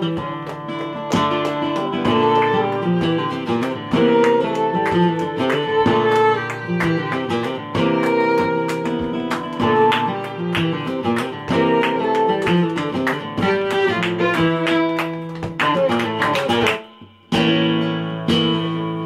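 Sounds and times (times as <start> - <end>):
flamenco guitar and fiddle: 0.0 - 19.0
rhythmic hand-clapping: 0.0 - 19.0.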